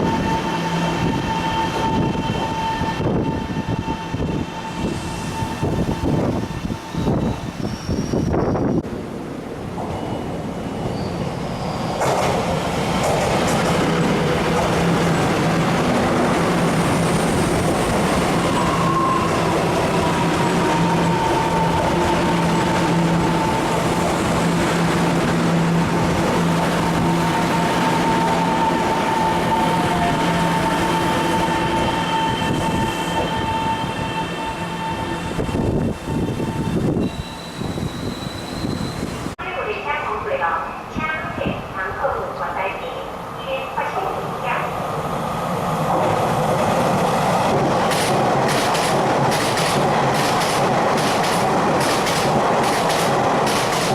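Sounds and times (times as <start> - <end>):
train wheels on rail: 0.0 - 39.4, 45.0 - 53.9
train low hum: 0.0 - 53.9
train whine: 0.0 - 53.9.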